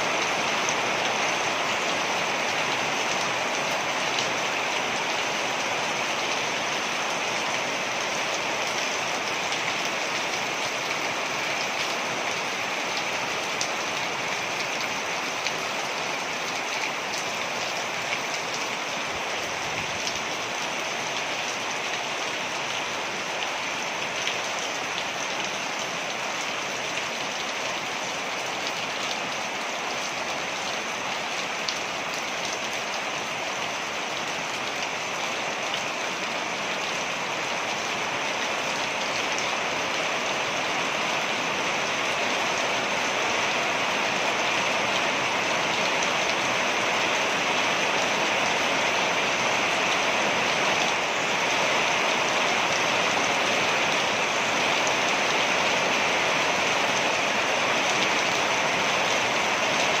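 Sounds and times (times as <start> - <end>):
waterfall rushing and splashing: 0.0 - 60.0.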